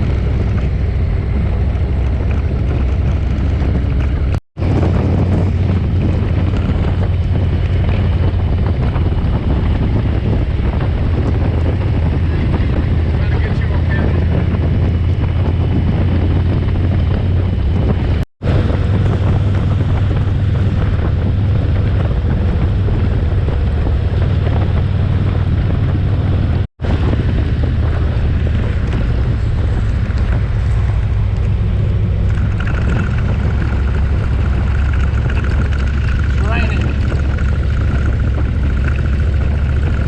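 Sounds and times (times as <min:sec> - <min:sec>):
motorcycle engine drone: 0:00.0 - 0:40.0
wind buffeting microphone: 0:00.0 - 0:40.0.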